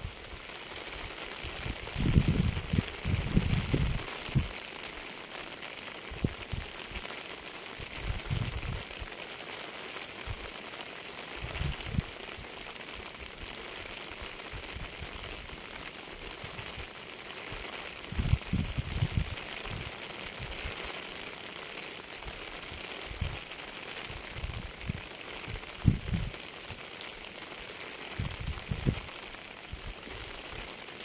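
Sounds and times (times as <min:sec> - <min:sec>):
rain hissing: 0:00.0 - 0:31.0.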